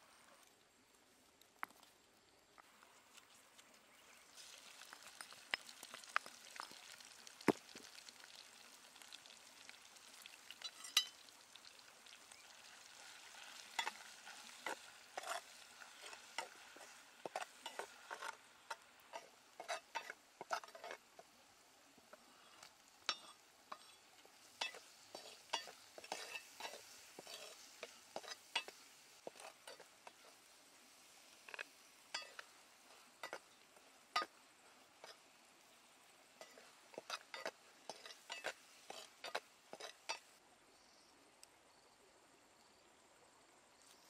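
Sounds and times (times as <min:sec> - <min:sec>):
food sizzling in oil: 0:03.1 - 0:40.4.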